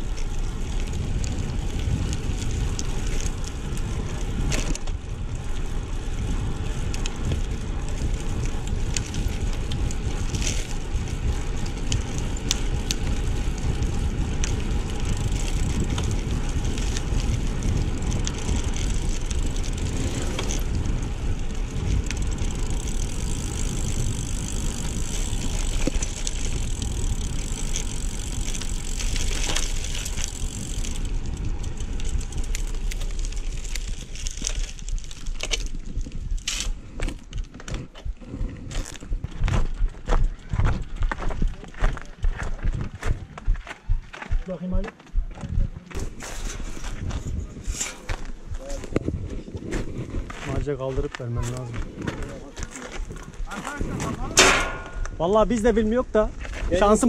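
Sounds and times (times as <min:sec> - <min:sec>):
bike rattling over rough ground: 0:00.0 - 0:57.0
bike tyres crunching on gravel: 0:00.0 - 0:57.0.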